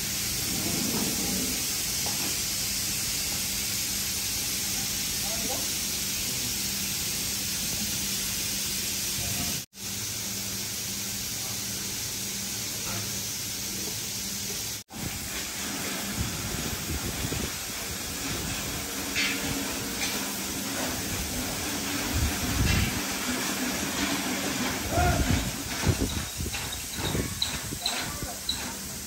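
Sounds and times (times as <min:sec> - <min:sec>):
steady hissing noise: 0:00.0 - 0:29.0.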